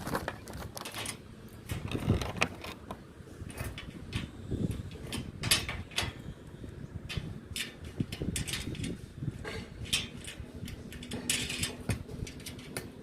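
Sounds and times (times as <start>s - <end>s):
tools clicking and scraping: 0.1s - 6.3s, 7.1s - 13.0s.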